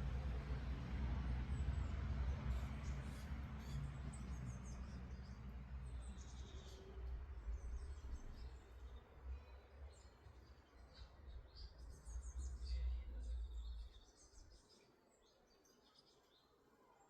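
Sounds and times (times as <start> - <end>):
small birds chirping: 1.8 - 16.6.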